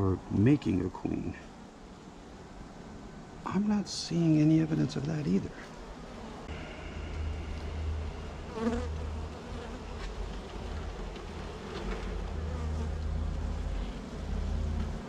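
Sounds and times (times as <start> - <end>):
low steady rumble: 0.0 - 15.0
honey bees buzzing: 1.5 - 15.0.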